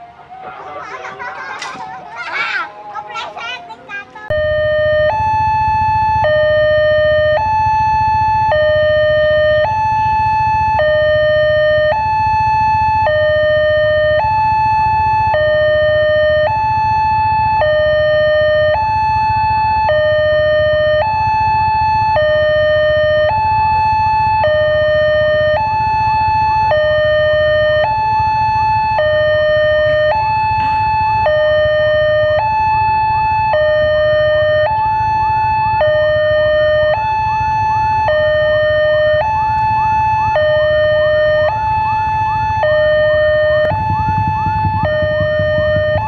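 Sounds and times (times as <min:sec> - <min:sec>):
two-tone electronic warning signal: 0:00.0 - 0:00.9, 0:02.7 - 0:46.0.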